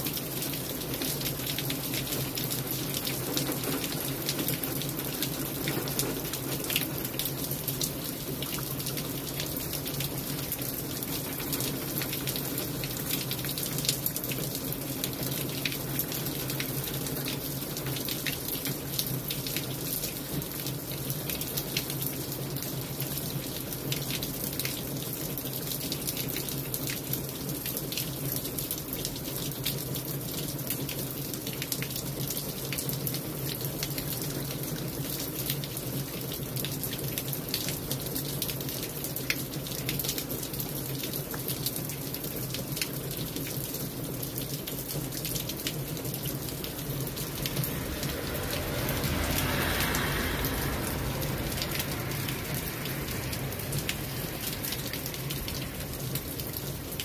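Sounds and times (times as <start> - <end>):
rain on brick paving: 0.0 - 57.0.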